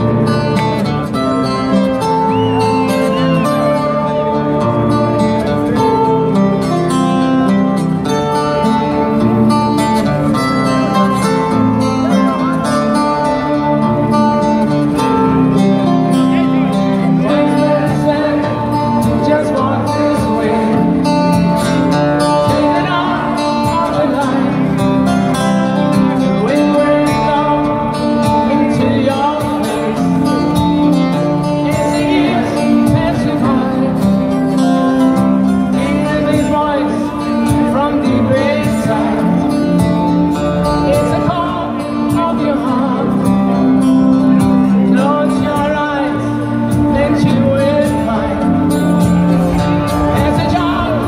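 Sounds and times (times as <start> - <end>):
electric guitar: 0.0 - 51.0
live rock band playing ballad: 0.0 - 51.0
man singing: 0.0 - 51.0.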